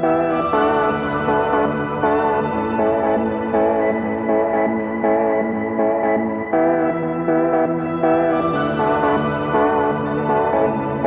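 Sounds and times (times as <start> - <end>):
calm keyboard melody: 0.0 - 11.0
steady bass line: 0.0 - 11.0.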